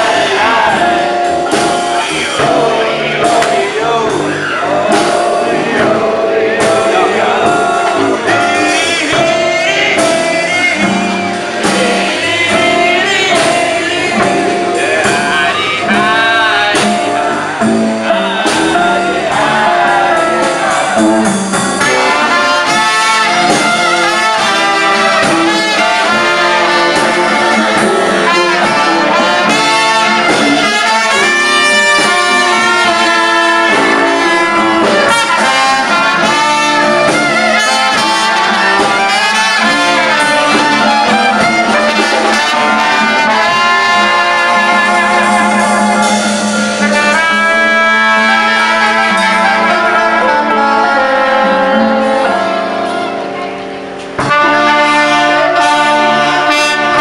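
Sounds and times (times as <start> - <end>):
brass band playing jazz: 0.0 - 57.0.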